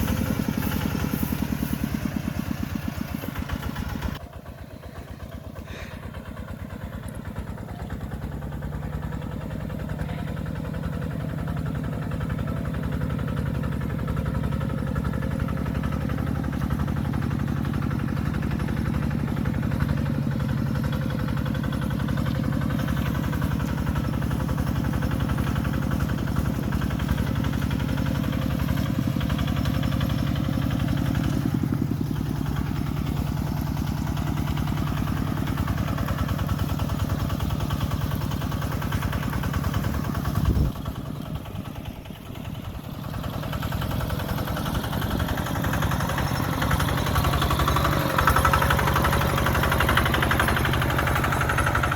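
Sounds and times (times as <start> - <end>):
tractor engine chugging: 0.0 - 51.9.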